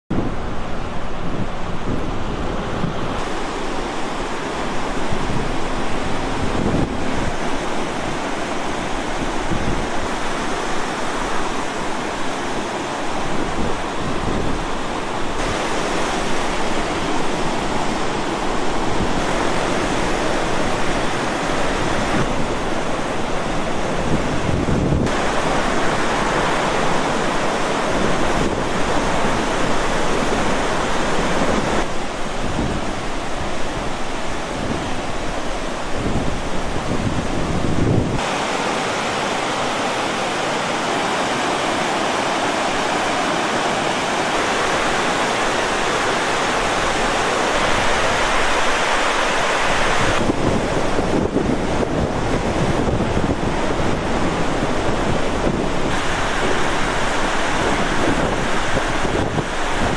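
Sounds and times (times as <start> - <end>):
water rushing through dam gates: 0.1 - 59.9
wind buffeting microphone: 0.1 - 59.9.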